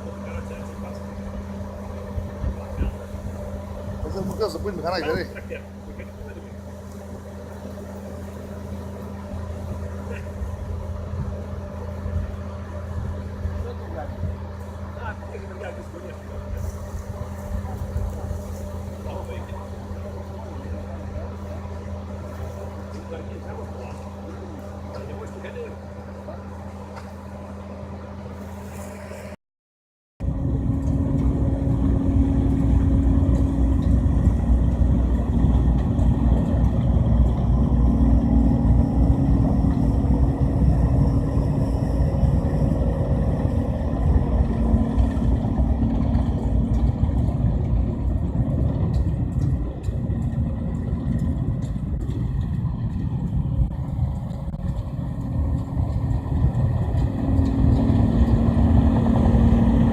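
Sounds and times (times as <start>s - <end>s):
combine harvester running: 0.0s - 29.4s, 30.2s - 59.9s.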